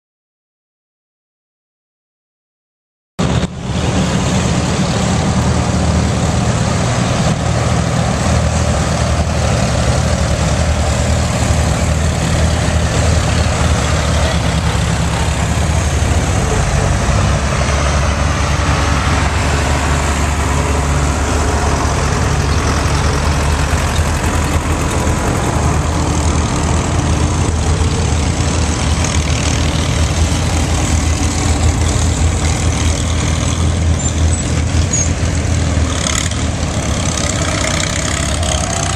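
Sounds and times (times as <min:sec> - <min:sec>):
tractor engines rumbling: 0:03.2 - 0:38.9.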